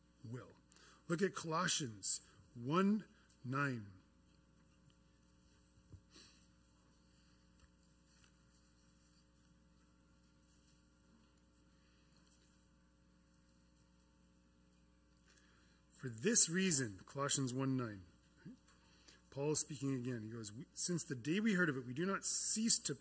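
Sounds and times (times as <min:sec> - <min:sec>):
faint mains hum: 0:00.0 - 0:23.0.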